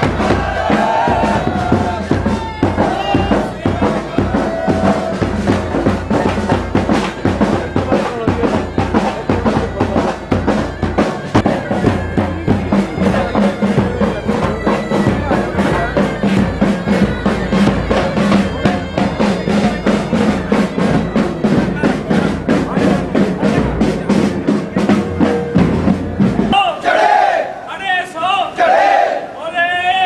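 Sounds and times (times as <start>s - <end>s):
loud fast drumming: 0.0s - 26.8s.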